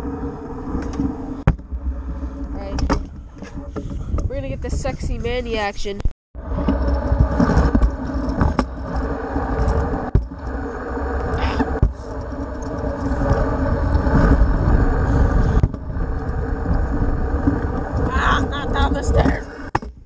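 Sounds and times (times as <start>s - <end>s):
scooter wheels rolling on concrete: 0.0s - 5.6s, 6.4s - 19.8s.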